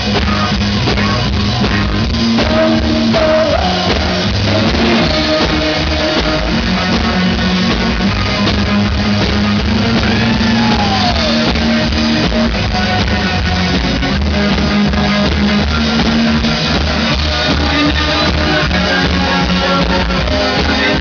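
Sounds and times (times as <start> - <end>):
bass line: 0.0 - 21.0
drum kit: 0.0 - 21.0.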